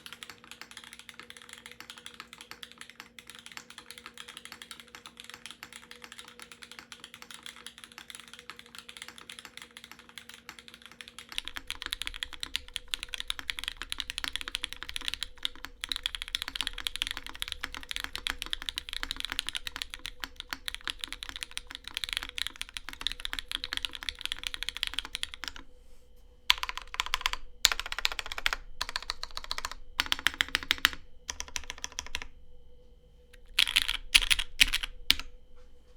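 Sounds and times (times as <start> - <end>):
fast typing on mechanical keyboard: 0.0 - 25.7, 26.5 - 32.3, 33.4 - 35.3.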